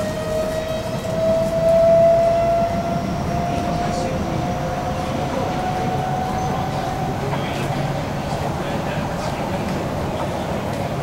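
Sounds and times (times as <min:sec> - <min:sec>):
low rumble of running train: 0:00.0 - 0:11.0
train inverter whining: 0:00.0 - 0:11.0.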